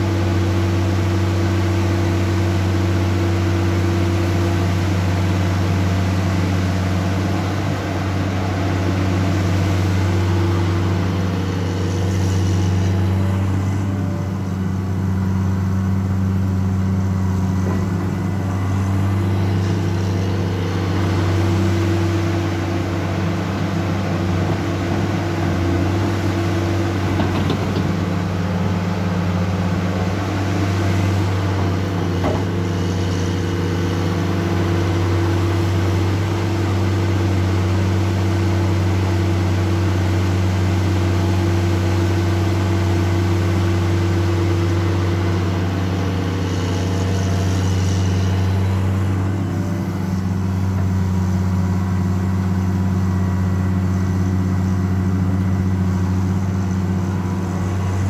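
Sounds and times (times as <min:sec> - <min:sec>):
excavator diesel engine droning: 0:00.0 - 0:58.0.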